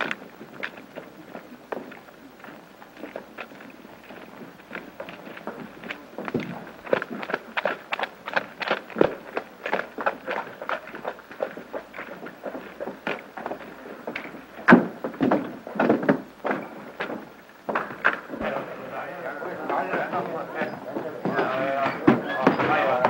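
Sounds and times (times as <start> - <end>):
footsteps in boots: 0.0 - 18.6.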